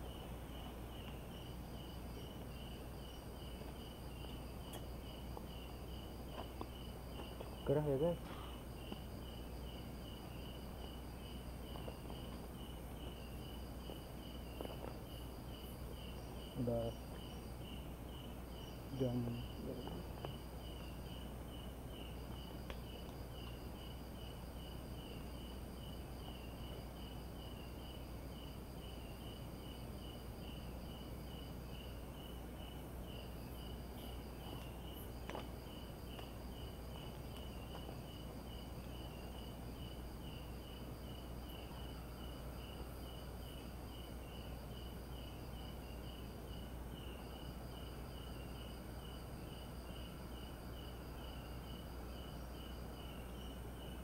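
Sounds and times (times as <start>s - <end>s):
crickets chirping: 0.0s - 54.0s
insects high-pitched trills: 0.0s - 54.0s.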